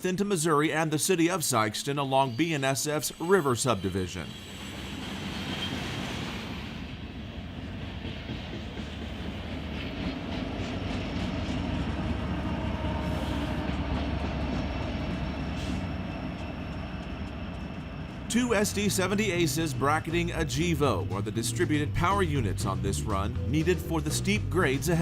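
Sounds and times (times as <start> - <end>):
train rumbling past: 4.1 - 25.0.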